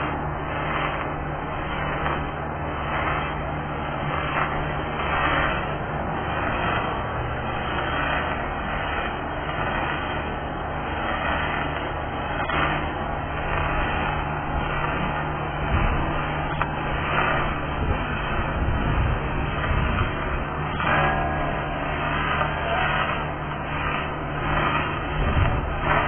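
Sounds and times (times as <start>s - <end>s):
low steady hum: 0.0s - 26.0s
welding arc crackling: 0.0s - 26.0s.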